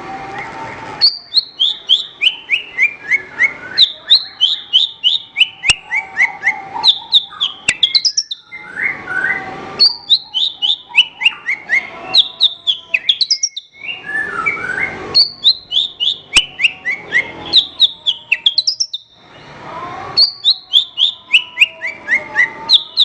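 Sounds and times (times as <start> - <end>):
bird singing sharp chirps: 1.0 - 23.0.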